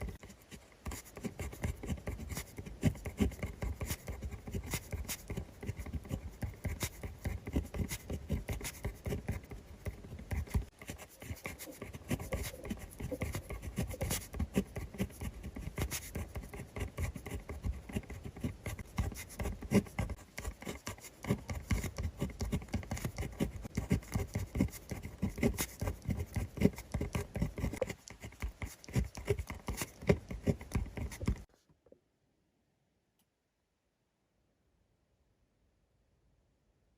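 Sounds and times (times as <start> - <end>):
pen scratching on paper: 0.0 - 31.5.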